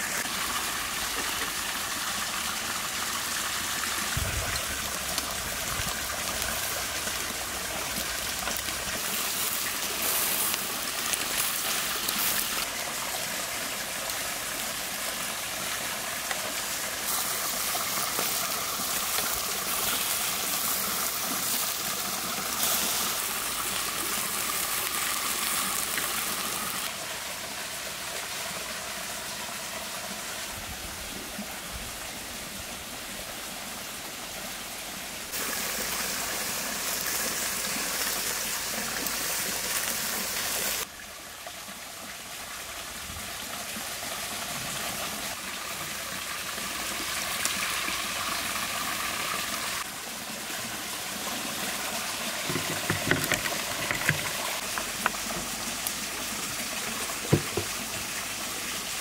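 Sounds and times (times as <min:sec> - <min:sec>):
stream and waterfall rushing: 0:00.0 - 0:59.0.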